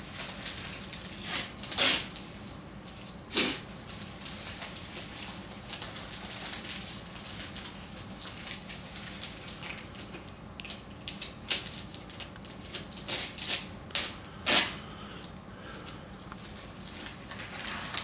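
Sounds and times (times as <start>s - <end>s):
wrapping paper rustling and tearing: 0.0s - 14.8s, 16.4s - 18.0s.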